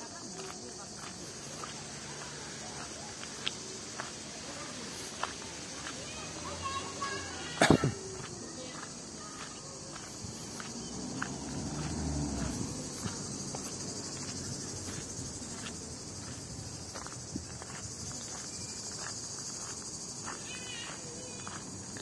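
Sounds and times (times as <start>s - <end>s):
insects chirring: 0.0s - 22.0s
footsteps on gravel: 0.1s - 22.0s.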